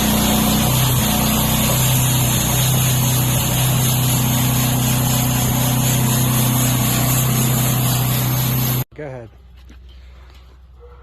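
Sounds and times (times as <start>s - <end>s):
sawmill engine running steadily: 0.0s - 8.9s.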